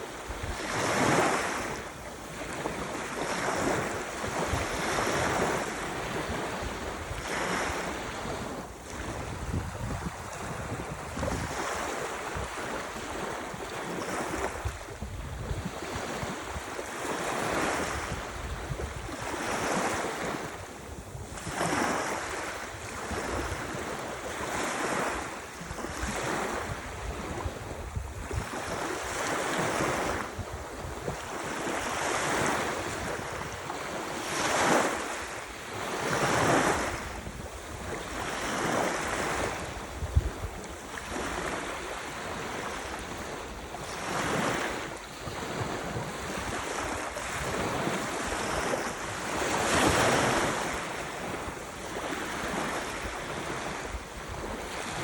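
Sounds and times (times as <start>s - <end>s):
ocean waves washing ashore: 0.0s - 55.0s
wind buffeting microphone: 0.0s - 55.0s.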